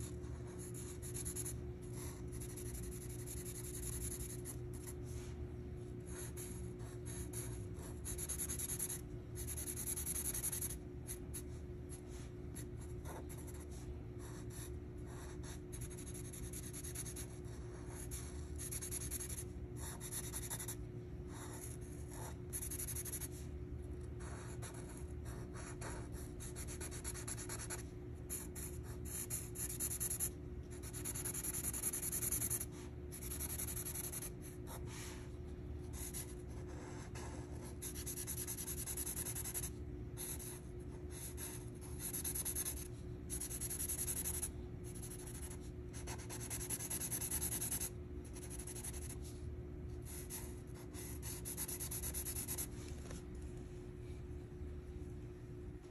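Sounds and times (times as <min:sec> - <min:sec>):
marker scribbling on paper: 0:00.0 - 0:05.4, 0:06.0 - 0:23.4, 0:24.2 - 0:35.2, 0:35.8 - 0:49.4, 0:50.1 - 0:52.8
steady low hum: 0:00.0 - 0:55.9.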